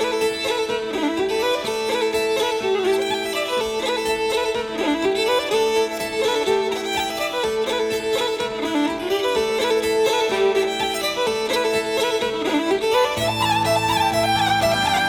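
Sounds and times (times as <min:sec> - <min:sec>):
fiddle melody: 0:00.0 - 0:15.0.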